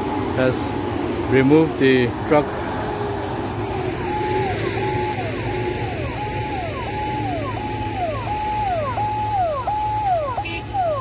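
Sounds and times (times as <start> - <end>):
ambulance siren: 0.0 - 11.0
low engine rumble: 0.0 - 11.0.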